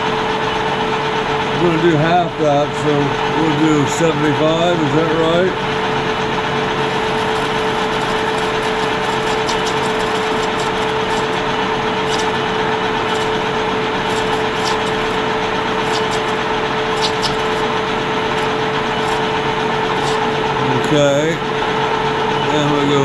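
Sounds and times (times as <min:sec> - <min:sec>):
metal lathe humming: 0:00.8 - 0:23.0.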